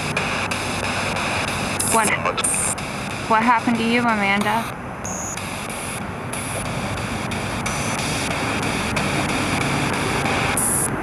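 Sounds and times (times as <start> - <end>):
radio static sweeping: 0.0 - 11.0.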